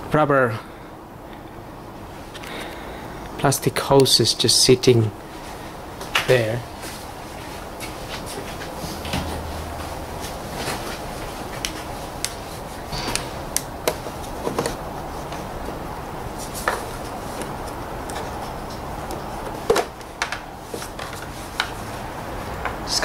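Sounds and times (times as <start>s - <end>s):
steady hiss: 0.2s - 19.7s.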